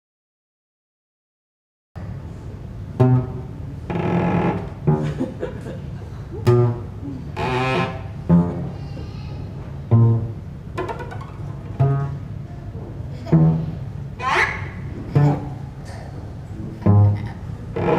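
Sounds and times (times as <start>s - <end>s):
solo instrumental low notes: 2.0s - 17.9s.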